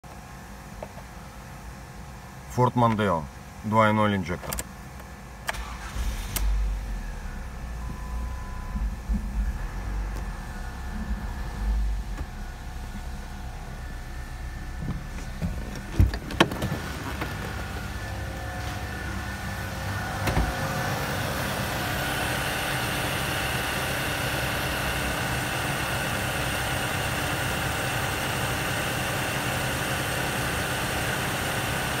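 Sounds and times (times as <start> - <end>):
car engine idling: 4.9 - 32.0.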